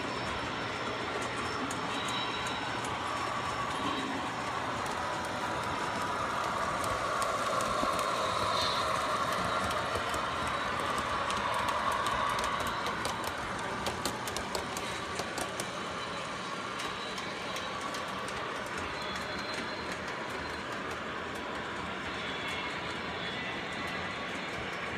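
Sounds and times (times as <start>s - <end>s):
model trains rumbling on track: 0.0s - 24.9s.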